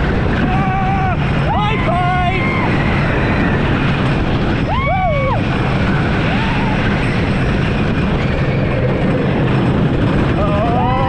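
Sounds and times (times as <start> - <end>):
roller coaster rumbling on track: 0.0 - 11.0
wind on microphone: 0.0 - 11.0.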